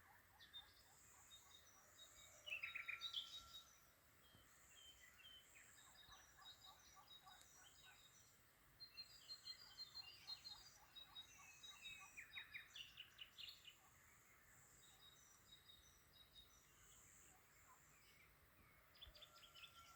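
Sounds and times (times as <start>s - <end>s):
songbirds chirping: 0.0s - 19.9s.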